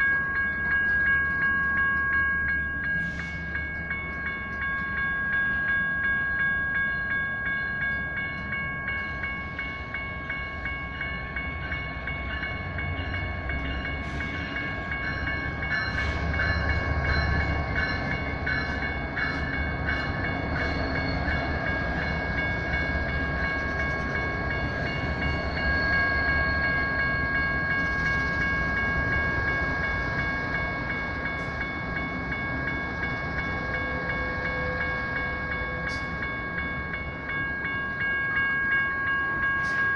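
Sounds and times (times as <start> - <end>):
electronic crossing bells ringing: 0.0 - 39.9
train rumbling past: 0.0 - 39.9.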